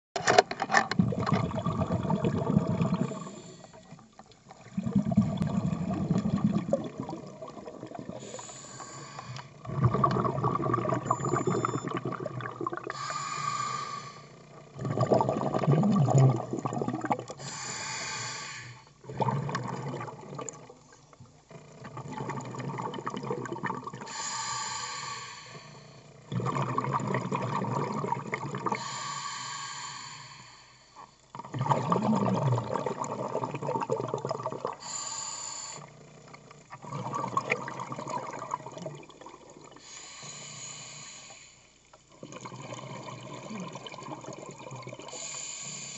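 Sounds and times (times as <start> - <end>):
muffled underwater water surging: 0.9 - 30.6, 31.3 - 45.9.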